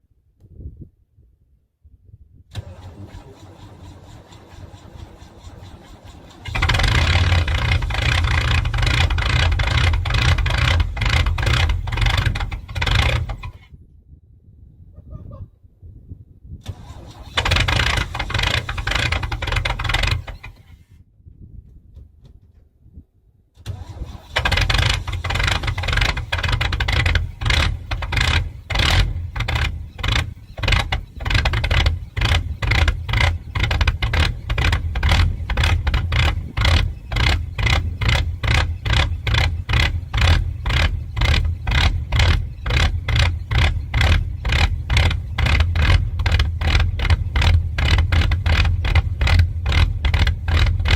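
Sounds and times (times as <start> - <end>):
engine cranking and starting: 2.5 - 13.7, 16.6 - 20.9, 23.6 - 50.9.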